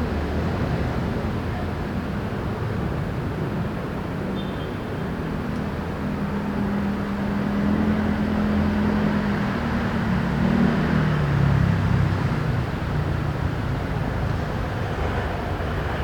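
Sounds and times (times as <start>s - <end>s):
city traffic noise: 0.0s - 16.0s.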